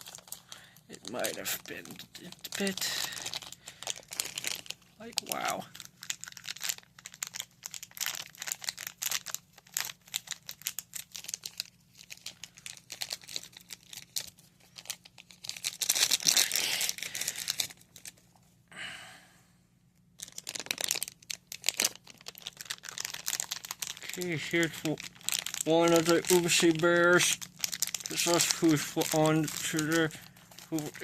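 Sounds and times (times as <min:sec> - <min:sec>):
packaging crinkling and tearing: 0:00.0 - 0:18.4, 0:20.0 - 0:31.0.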